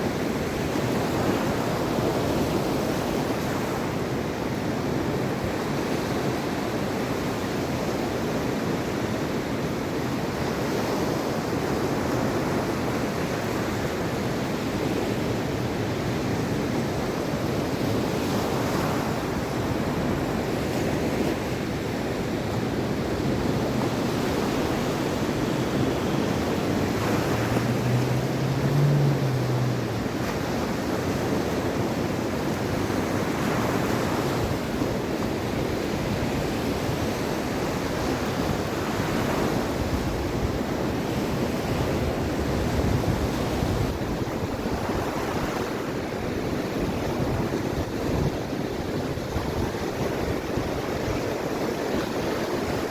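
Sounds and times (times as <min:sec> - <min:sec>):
waves breaking: 0:10.1 - 0:52.9.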